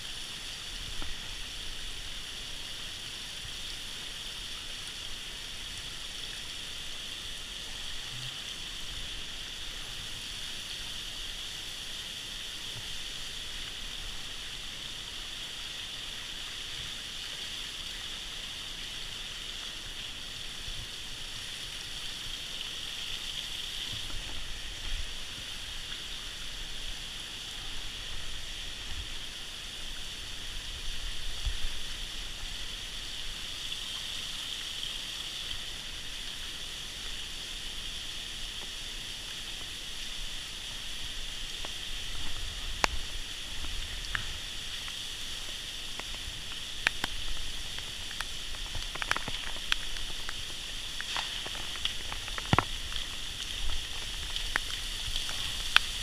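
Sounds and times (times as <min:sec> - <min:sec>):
waterfall rushing over rock: 0:00.0 - 0:56.0.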